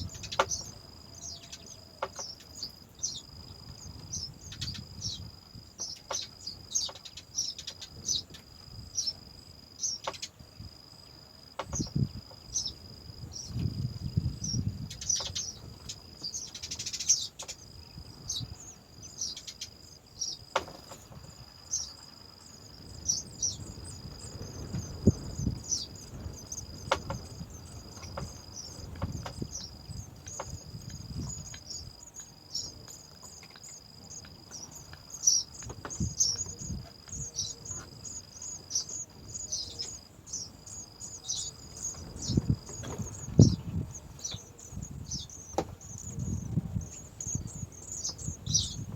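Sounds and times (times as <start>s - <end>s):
high-pitched insect trill: 0.0s - 48.9s.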